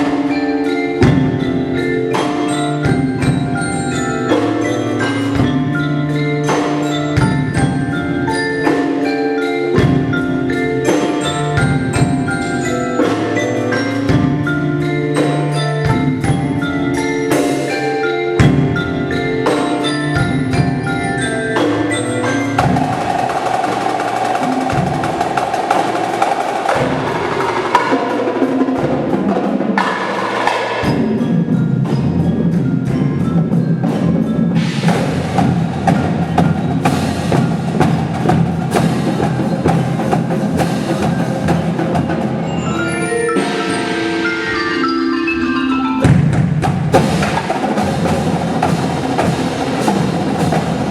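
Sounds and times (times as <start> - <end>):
drums with clicking hits: 0.0 - 44.9, 45.8 - 50.9
mallet instruments ringing: 0.0 - 50.9.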